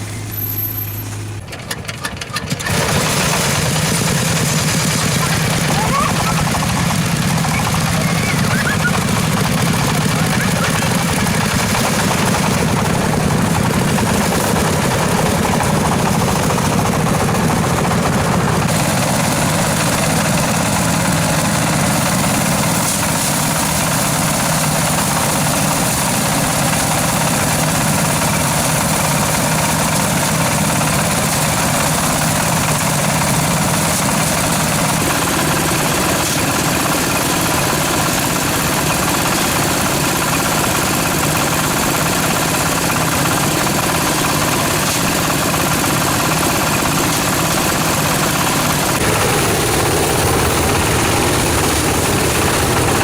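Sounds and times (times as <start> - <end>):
engine running loudly: 0.0 - 53.0.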